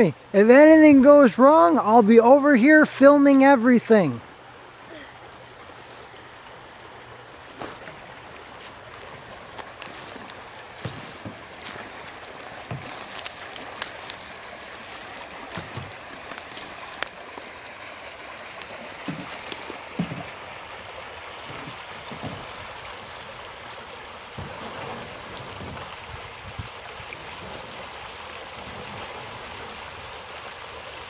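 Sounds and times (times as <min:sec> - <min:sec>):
river rushing over rocks: 0:02.8 - 0:31.0.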